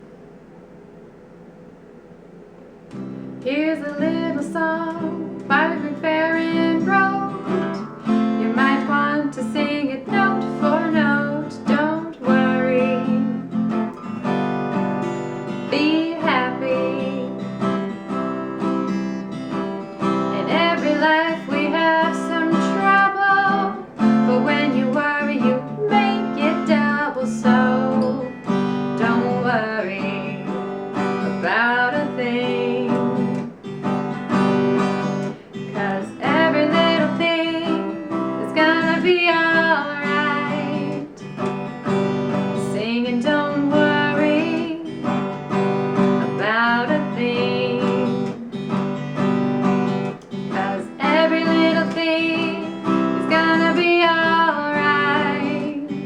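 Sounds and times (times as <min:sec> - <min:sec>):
strummed acoustic guitar: 0:02.6 - 0:56.0
woman singing: 0:03.3 - 0:13.9, 0:15.5 - 0:33.6, 0:35.2 - 0:41.5, 0:42.3 - 0:56.0.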